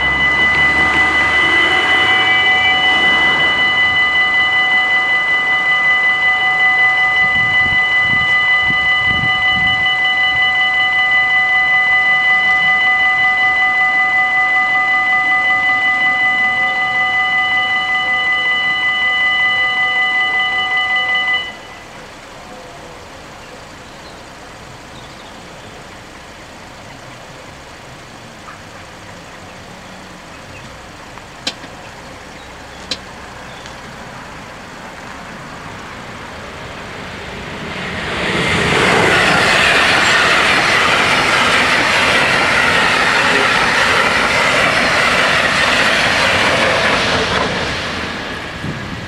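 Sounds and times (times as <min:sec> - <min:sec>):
level-crossing warning bells: 0:00.0 - 0:49.0.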